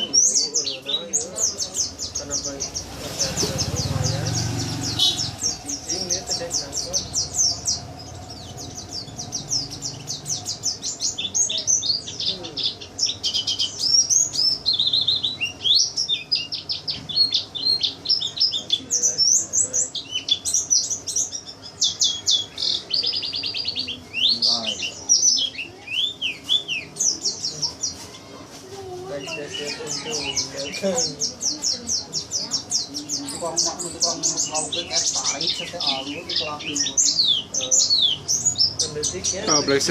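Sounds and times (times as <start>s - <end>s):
songbird twittering: 0.0s - 28.1s, 29.1s - 39.9s.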